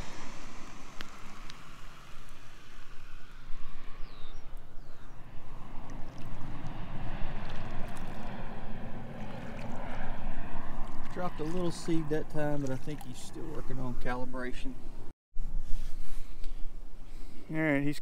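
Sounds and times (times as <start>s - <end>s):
airplane engine: 0.0s - 15.1s.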